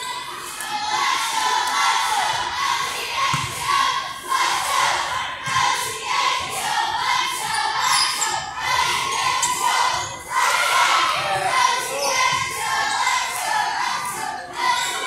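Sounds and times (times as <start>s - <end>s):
crowd shouting and cheering: 0.0s - 15.0s.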